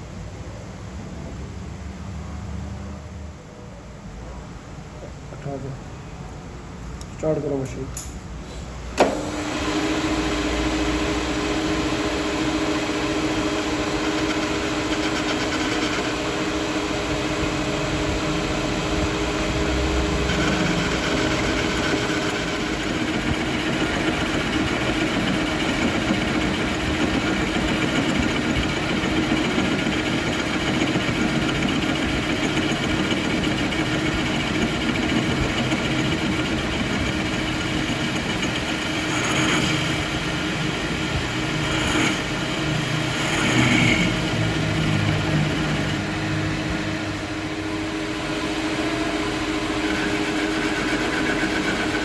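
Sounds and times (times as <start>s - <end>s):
workshop machine humming: 5.3s - 52.0s.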